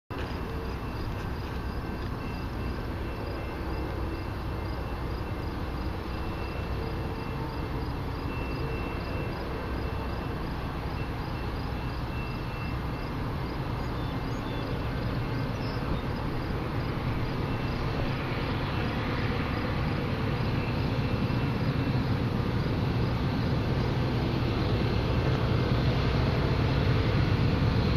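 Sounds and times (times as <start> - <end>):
freight train rumble: 0.1 - 27.9
crickets chirping: 0.2 - 27.6.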